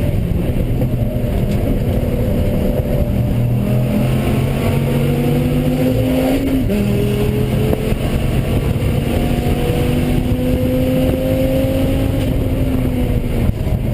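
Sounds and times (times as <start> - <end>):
car engine running hard: 0.0 - 13.9.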